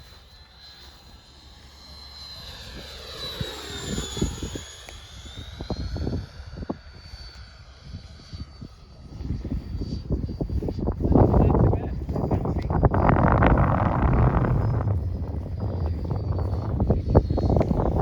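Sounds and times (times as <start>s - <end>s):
model jet whine passing: 0.0s - 18.0s
wind buffeting microphone: 2.6s - 18.0s.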